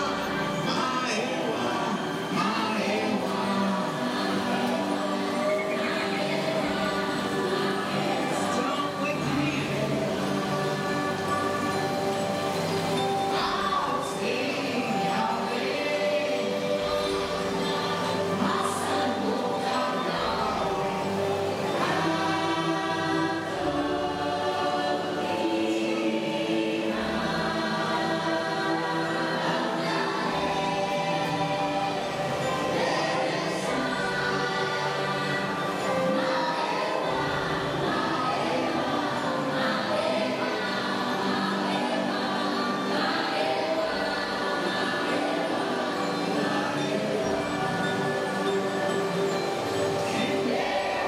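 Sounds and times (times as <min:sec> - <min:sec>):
choir singing held chords: 0:00.0 - 0:51.0
sustained background music: 0:00.0 - 0:51.0.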